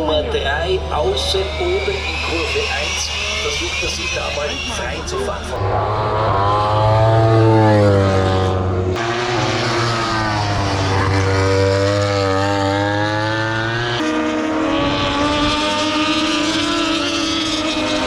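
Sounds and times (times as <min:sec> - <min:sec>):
electric motorcycles whining: 0:00.0 - 0:18.0.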